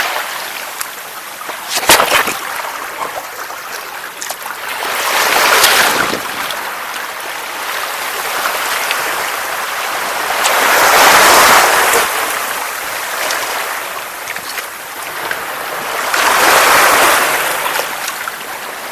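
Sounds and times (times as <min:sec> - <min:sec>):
sea waves breaking on beach: 0:00.0 - 0:18.9.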